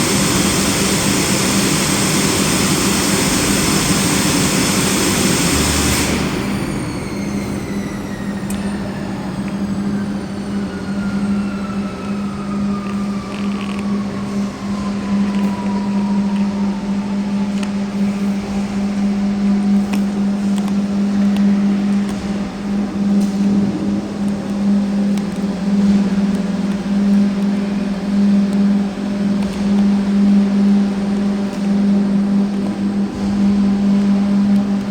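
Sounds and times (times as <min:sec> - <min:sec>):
machine low hum: 0:00.0 - 0:34.9
machine whine falling in pitch: 0:00.0 - 0:34.9.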